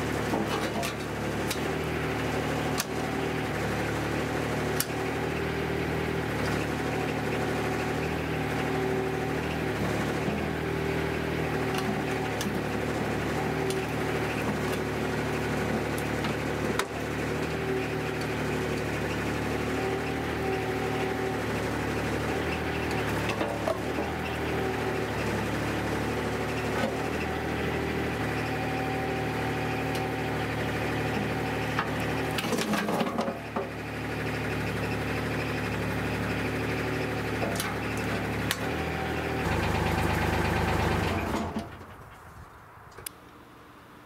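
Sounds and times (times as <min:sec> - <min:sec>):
excavator engine running: 0:00.0 - 0:44.0.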